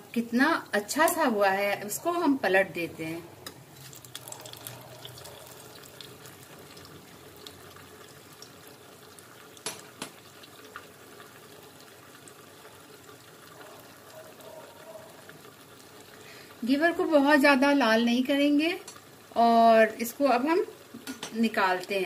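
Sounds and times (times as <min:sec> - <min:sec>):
frying in hot oil: 0:00.0 - 0:22.0.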